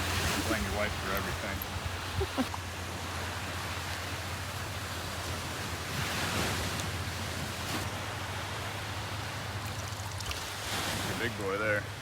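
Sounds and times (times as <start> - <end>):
ocean surf washing on beach: 0.0 - 12.0.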